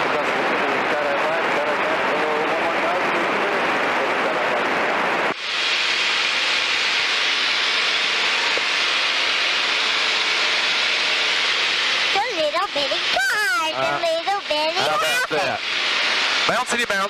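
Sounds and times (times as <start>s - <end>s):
aircraft in-flight noise: 0.0s - 17.0s.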